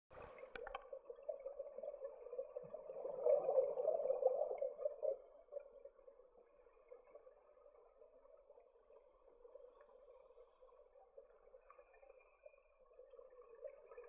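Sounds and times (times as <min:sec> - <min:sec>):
underwater bubbles gurgling: 0:00.1 - 0:14.0.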